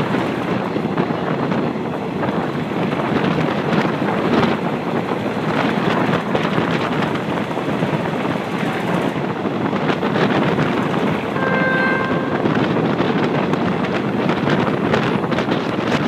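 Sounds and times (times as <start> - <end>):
train running noise: 0.0 - 16.0
wind buffeting microphone: 0.0 - 16.0.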